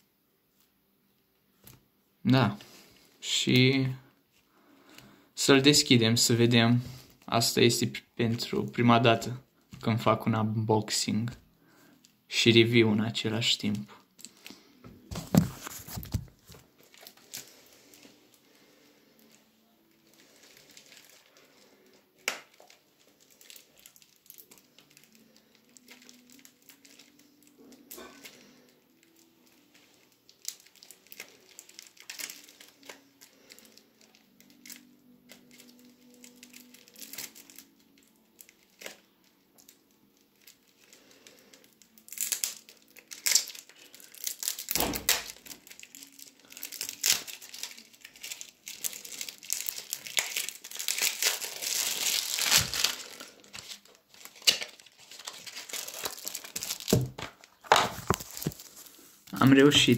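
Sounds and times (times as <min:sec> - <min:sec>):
plastic film crinkling and tearing: 0:10.9 - 0:59.9.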